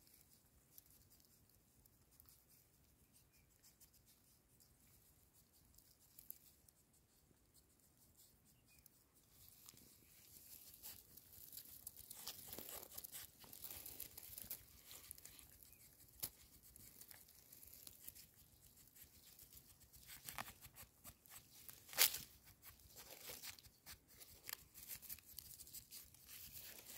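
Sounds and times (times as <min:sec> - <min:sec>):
scratching and crackling of soil: 0:00.0 - 0:26.9.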